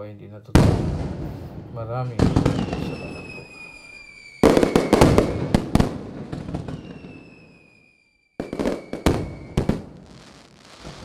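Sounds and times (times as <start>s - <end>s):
fireworks bangs and crackles: 0.5s - 11.0s
descending firework whistle: 1.2s - 11.0s.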